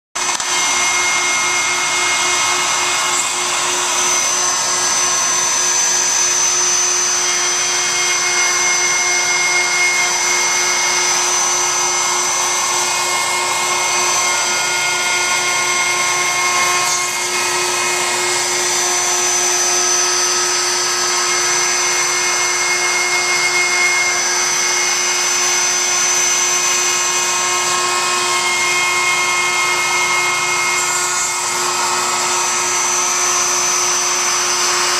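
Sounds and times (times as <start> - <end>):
router milling wood: 0.2 - 34.9.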